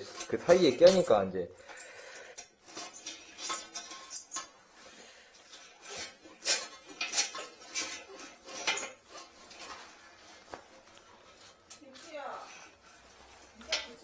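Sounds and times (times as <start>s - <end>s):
tools clinking in toilet drain: 0.0s - 14.0s.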